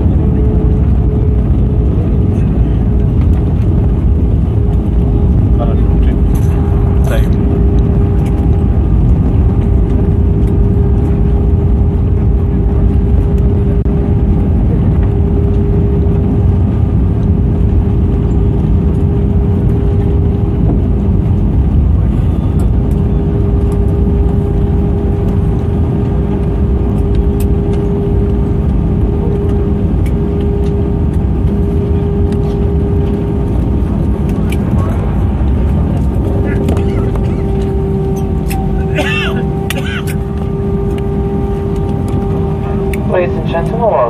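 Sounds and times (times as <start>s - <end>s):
aircraft engines and wheels rumbling: 0.0s - 44.0s
steady hum: 0.0s - 44.0s.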